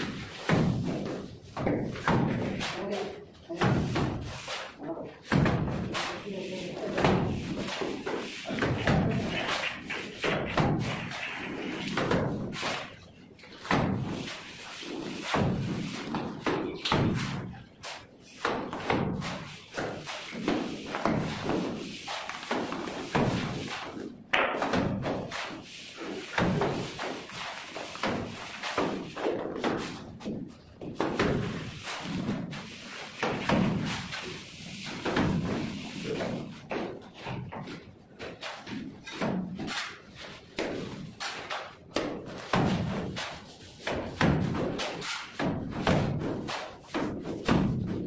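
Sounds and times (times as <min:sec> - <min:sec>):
mortar slapping onto a wall: 0:00.0 - 0:48.0.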